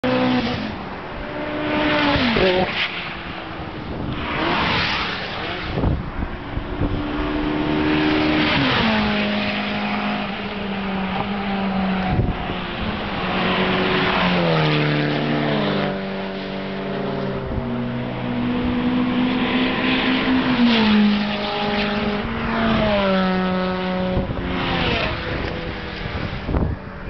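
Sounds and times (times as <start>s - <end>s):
engines accelerating with upshifts: 0.0s - 27.0s
race car passing: 0.0s - 27.0s.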